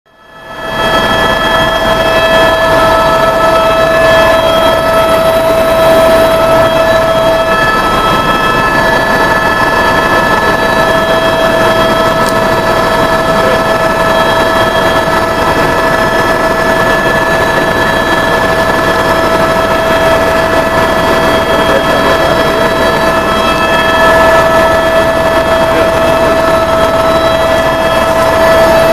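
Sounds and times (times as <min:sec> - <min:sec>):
aircraft engines at takeoff: 0:00.1 - 0:28.9
high engine whine: 0:00.1 - 0:28.9.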